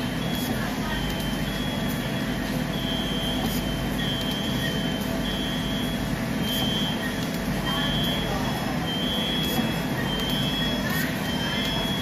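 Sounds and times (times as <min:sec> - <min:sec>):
vibratory bowl feeder humming: 0:00.0 - 0:12.0
short high-pitched beep: 0:00.2 - 0:07.1, 0:07.7 - 0:12.0.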